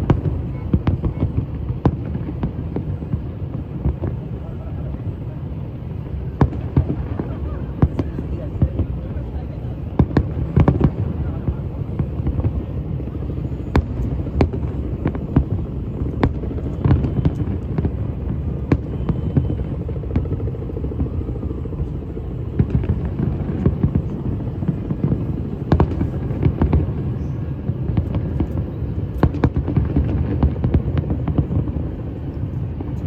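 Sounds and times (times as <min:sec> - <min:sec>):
fireworks bangs and pops: 0:00.0 - 0:33.0.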